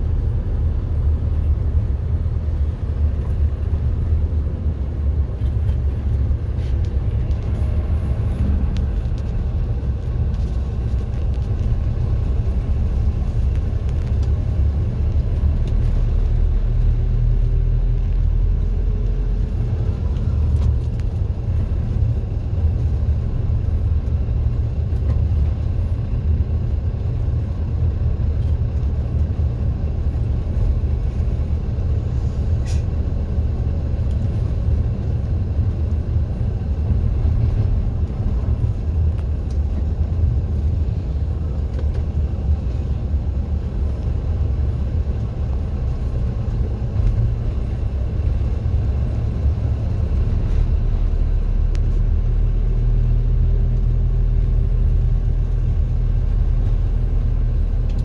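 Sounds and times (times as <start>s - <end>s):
road vehicle engine rumble: 0.0s - 58.0s.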